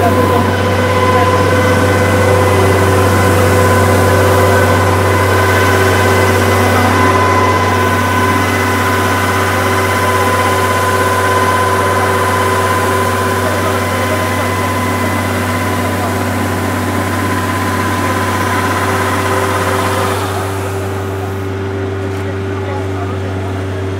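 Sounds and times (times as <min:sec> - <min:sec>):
combine harvester engine hum: 0:00.0 - 0:23.9.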